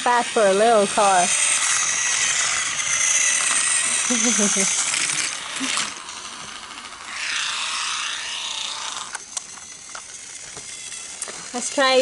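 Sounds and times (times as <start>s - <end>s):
toy car motor whirring: 0.0s - 12.0s.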